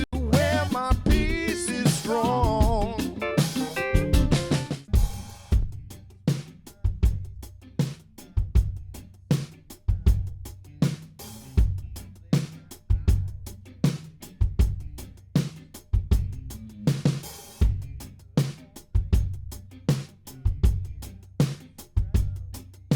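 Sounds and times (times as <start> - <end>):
drum kit playing a groove: 0.0 - 22.9.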